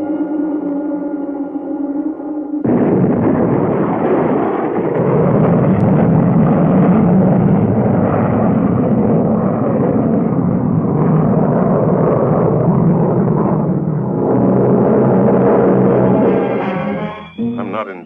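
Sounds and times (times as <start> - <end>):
rocket engine rushing rumble: 2.5 - 18.0.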